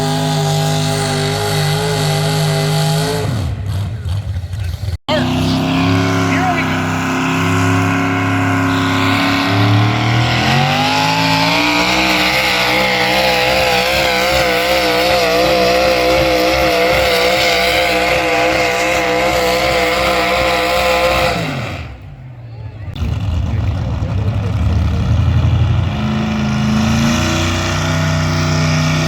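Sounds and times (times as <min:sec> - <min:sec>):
tractor engine revving: 0:00.0 - 0:29.0.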